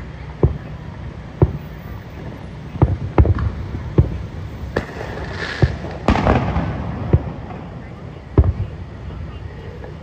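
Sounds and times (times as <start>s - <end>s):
distant fireworks booms: 0.0s - 10.0s
steady low rumble: 0.0s - 10.0s.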